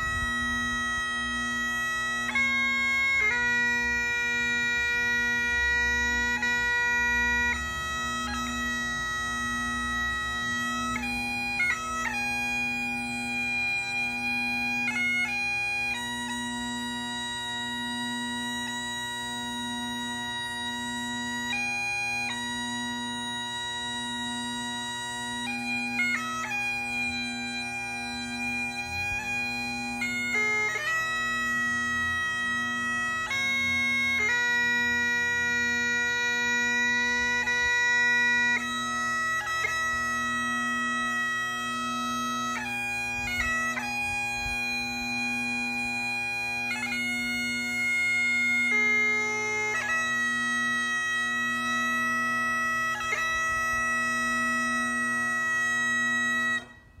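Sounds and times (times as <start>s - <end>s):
bagpipe melody over drone: 0.0s - 57.0s.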